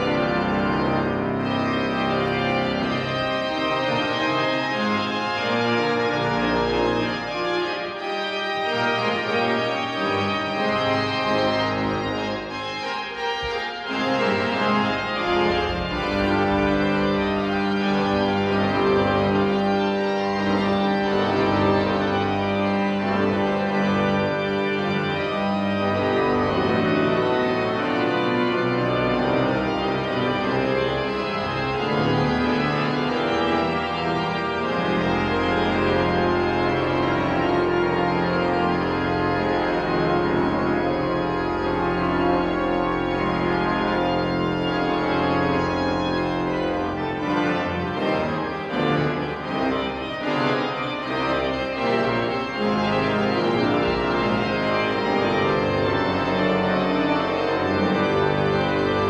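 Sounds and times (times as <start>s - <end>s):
church organ chords: 0.0s - 59.0s
deep organ pedal bass: 0.0s - 59.0s.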